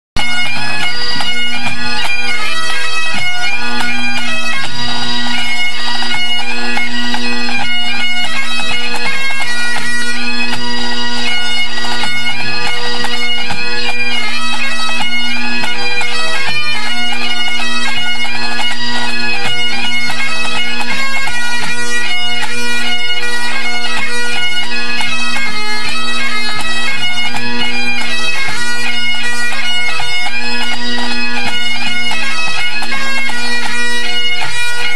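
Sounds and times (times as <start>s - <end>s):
bagpipes playing over a drone: 0.2s - 34.9s.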